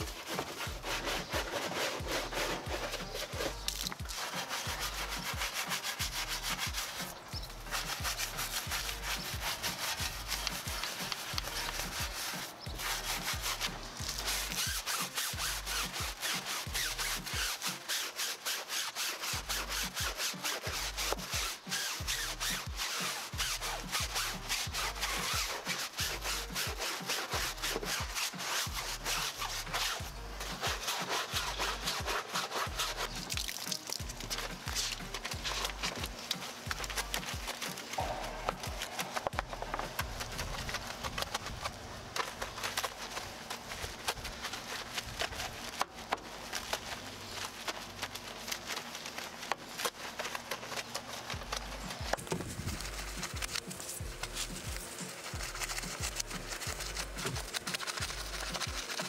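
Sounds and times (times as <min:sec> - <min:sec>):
brush scrubbing tire: 0:00.0 - 0:59.0.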